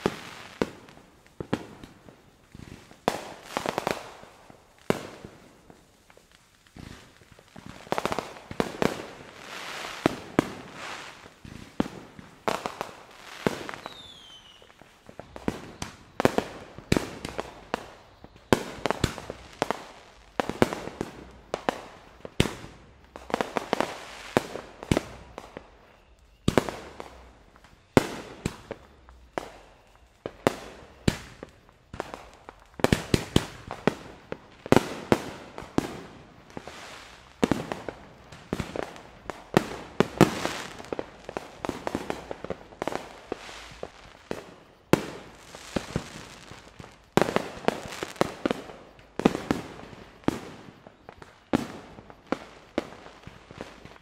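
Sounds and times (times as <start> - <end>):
fireworks bangs and pops: 0.0 - 54.0
falling firework whistle: 6.8 - 54.0.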